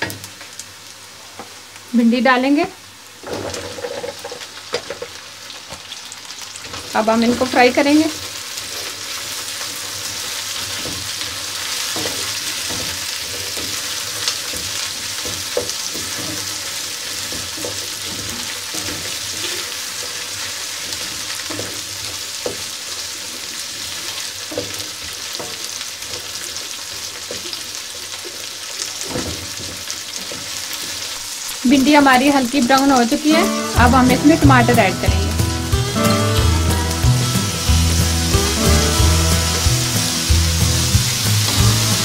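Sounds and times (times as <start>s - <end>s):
vegetables sizzling in oil: 0.0s - 42.0s.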